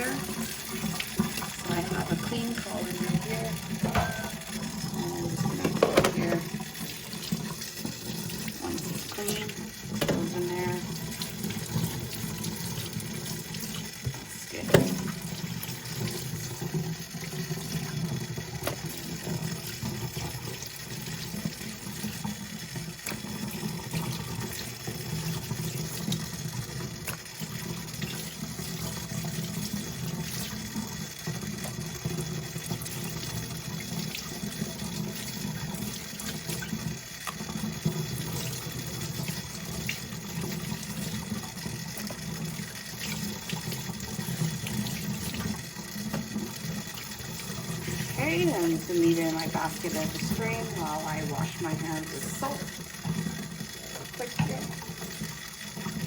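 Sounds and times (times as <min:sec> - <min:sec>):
tap water splashing in sink: 0:00.0 - 0:56.0.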